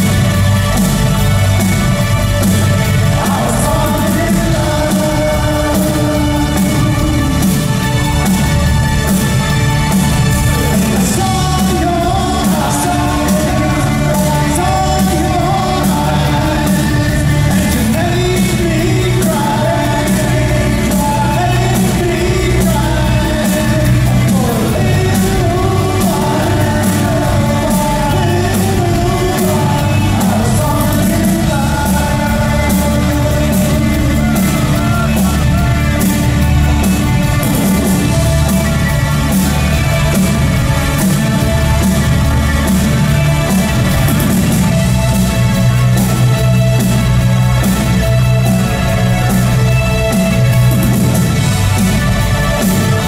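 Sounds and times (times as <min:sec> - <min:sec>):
lead voice singing: 0:00.0 - 0:53.0
rock band playing: 0:00.0 - 0:53.0.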